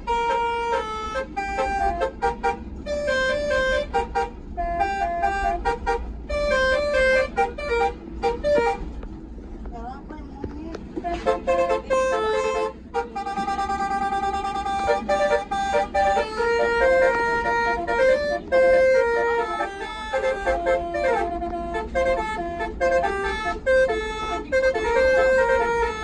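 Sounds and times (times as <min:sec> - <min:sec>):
air horns playing a melody: 0:00.0 - 0:08.9, 0:11.0 - 0:26.0
bus engine rumble: 0:00.0 - 0:26.0.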